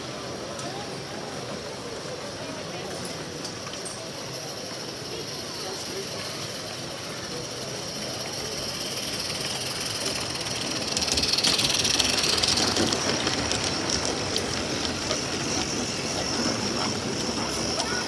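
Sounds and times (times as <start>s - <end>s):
model train running past: 0.0s - 18.0s.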